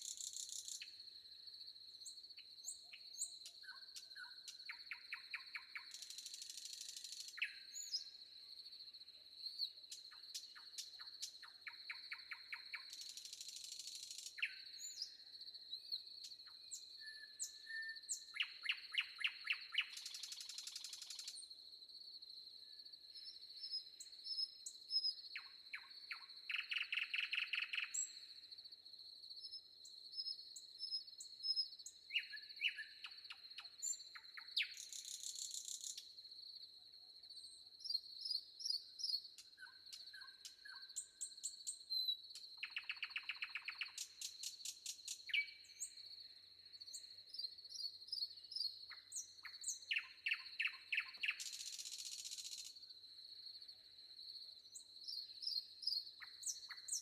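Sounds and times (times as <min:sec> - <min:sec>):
songbirds calling and singing: 0:00.0 - 0:01.0, 0:02.0 - 0:08.5, 0:09.4 - 0:21.5, 0:22.6 - 0:28.4, 0:29.4 - 0:36.1, 0:37.3 - 0:52.9, 0:54.6 - 0:57.0.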